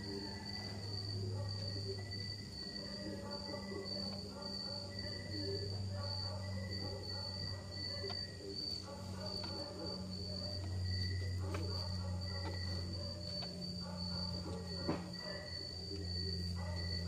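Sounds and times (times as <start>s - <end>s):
crickets trilling: 0.0s - 17.0s
faint distant voices: 0.0s - 17.0s.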